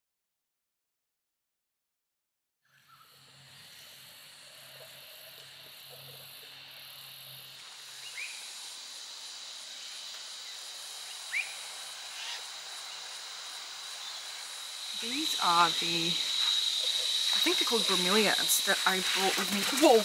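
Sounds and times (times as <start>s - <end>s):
high-pitched insect drone: 2.7s - 20.0s.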